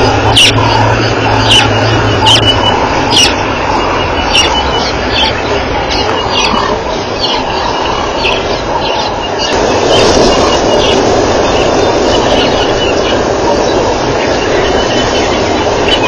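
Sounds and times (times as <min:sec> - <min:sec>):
rushing background noise: 0:00.0 - 0:16.0.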